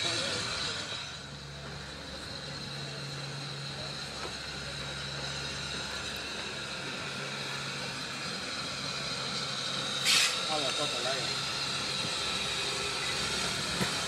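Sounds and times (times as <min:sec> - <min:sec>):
distant steam train rumble: 0:00.0 - 0:14.0.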